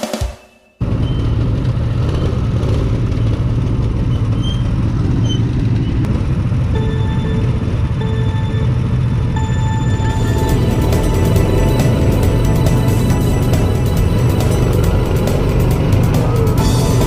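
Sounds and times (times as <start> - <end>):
go-kart engine droning: 0.8 - 17.0.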